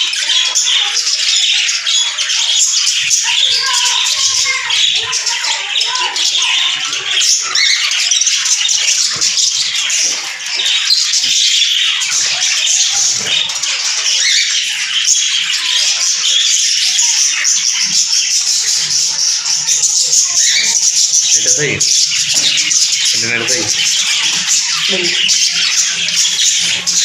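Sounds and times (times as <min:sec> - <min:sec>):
parrots calling in a din: 0:00.0 - 0:27.0.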